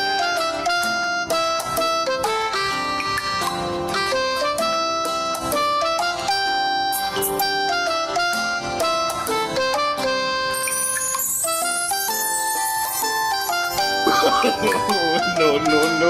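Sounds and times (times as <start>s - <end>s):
melody over percussive beat: 0.0s - 16.0s.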